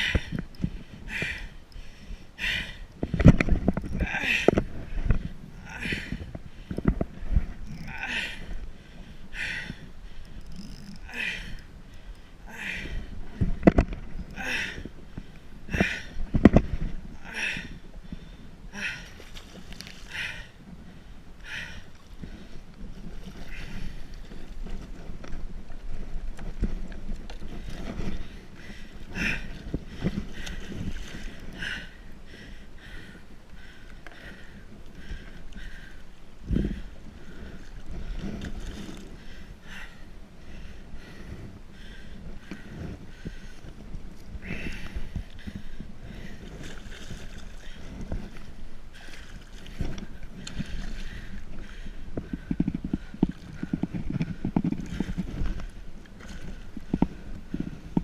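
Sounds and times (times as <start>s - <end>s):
water against kayak hull: 0.0s - 58.0s
wind on microphone: 0.0s - 58.0s.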